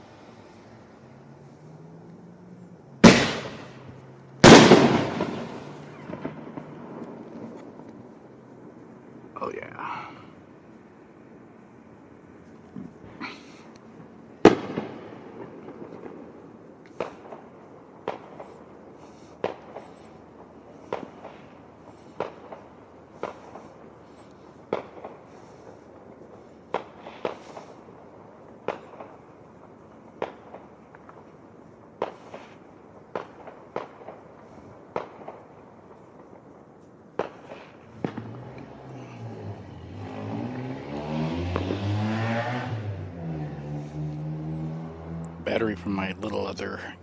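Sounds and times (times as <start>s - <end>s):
fireworks and firecrackers banging: 3.0s - 11.4s, 12.0s - 44.7s, 45.5s - 47.0s.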